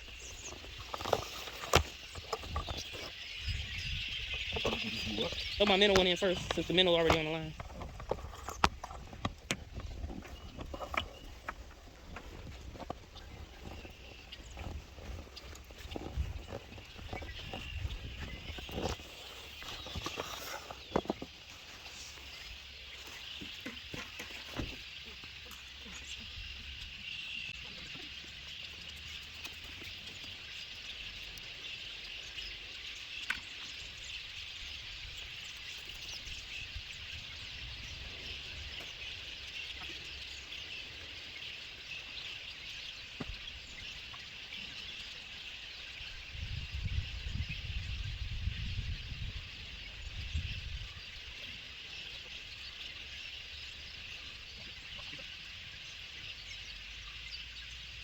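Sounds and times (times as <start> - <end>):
high-pitched wildlife chorus: 0.0 - 58.0.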